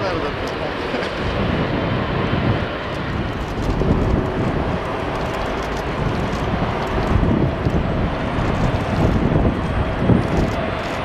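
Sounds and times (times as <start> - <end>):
jet engine rumble: 0.0 - 11.0
wind buffeting microphone: 0.0 - 11.0.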